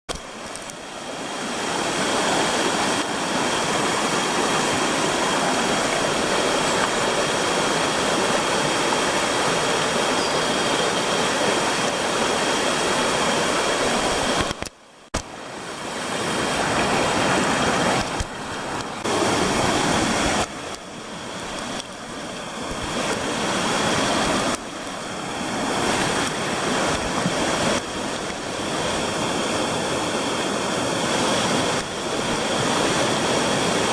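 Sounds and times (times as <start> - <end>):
rushing mountain stream: 0.1 - 33.9.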